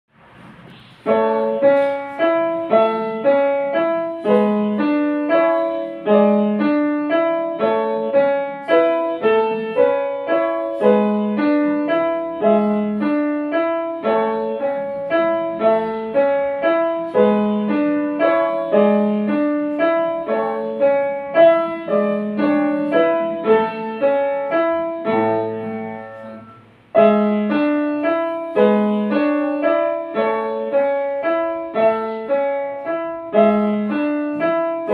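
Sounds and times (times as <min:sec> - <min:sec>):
upright piano playing: 0:00.3 - 0:34.9.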